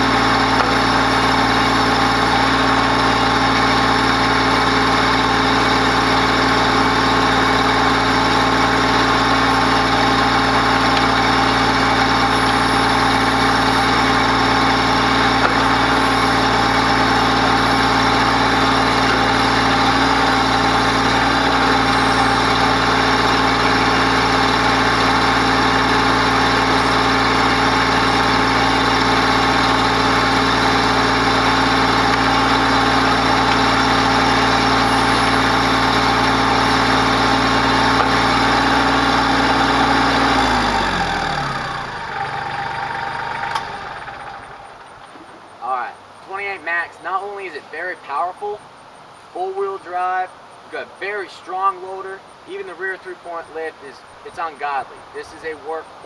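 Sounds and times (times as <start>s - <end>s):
tractor diesel engine running: 0.0s - 51.4s, 52.0s - 56.0s.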